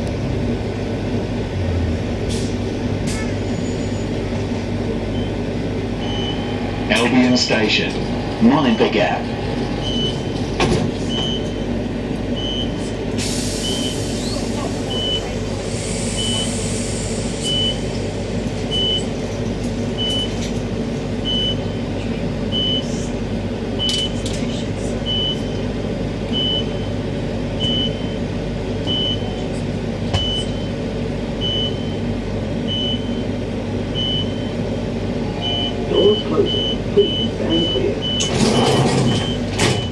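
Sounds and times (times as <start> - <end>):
train electrical hum: 0.0 - 39.9.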